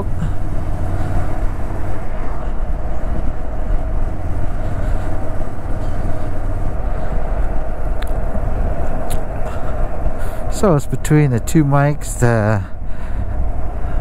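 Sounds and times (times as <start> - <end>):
motorcycle engine and road rumble: 0.0 - 14.0
wind rushing: 0.0 - 14.0.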